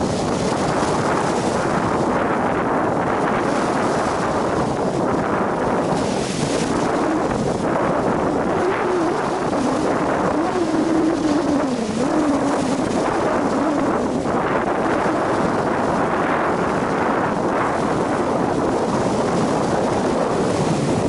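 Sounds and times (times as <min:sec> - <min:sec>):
sea surf on rocks: 0:00.0 - 0:21.0
wavering hum: 0:00.0 - 0:21.0
wind buffeting microphone: 0:00.0 - 0:21.0.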